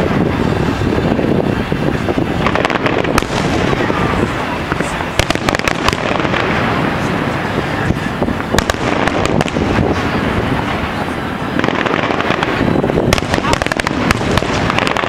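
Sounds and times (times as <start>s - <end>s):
fireworks bursts rumbling: 0.0s - 15.0s
crackling firework pops: 1.9s - 15.0s.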